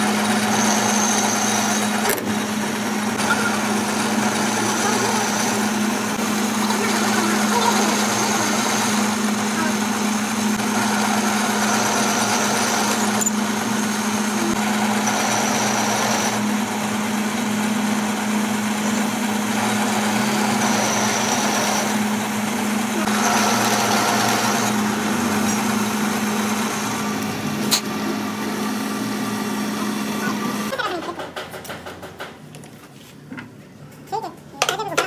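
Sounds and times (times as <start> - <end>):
workshop machine humming: 0.0 - 35.0.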